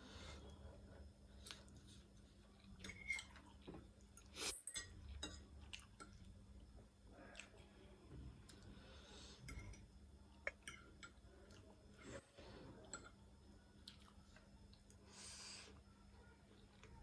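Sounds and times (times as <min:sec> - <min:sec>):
low steady hum: 0:00.0 - 0:17.0
soft chewing and mouth clicks: 0:01.3 - 0:08.8, 0:09.4 - 0:15.1, 0:16.5 - 0:17.0.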